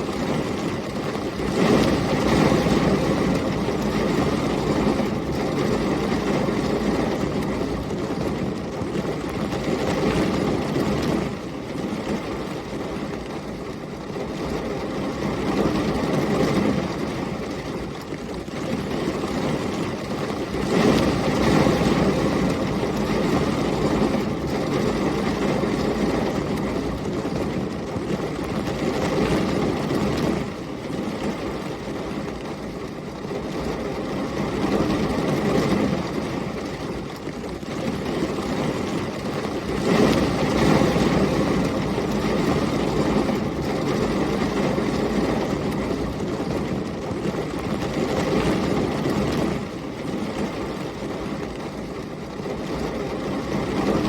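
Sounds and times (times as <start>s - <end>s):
heavy rain: 0.0s - 54.0s
storm wind gusts: 0.0s - 54.0s.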